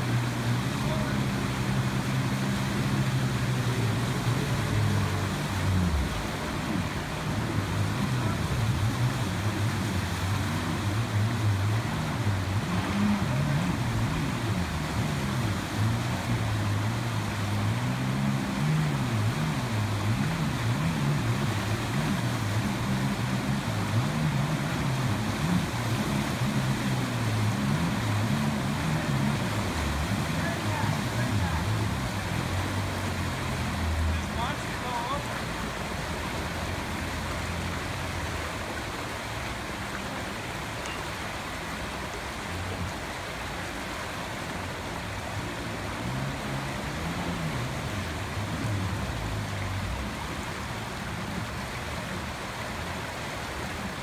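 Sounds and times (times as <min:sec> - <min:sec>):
rushing whitewater: 0:00.0 - 0:54.0
watercraft engine revving: 0:00.0 - 0:54.0.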